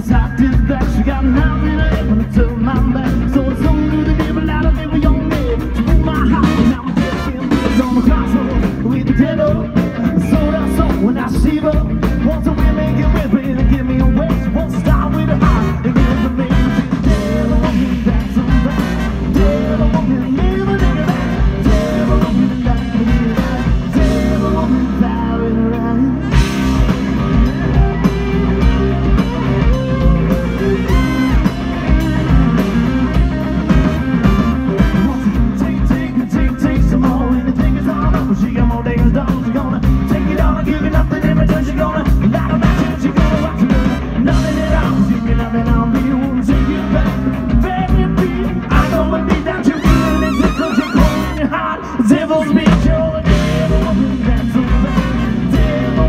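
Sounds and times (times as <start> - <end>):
live rock band with horns: 0.0 - 56.0
man singing lead vocal: 0.0 - 56.0.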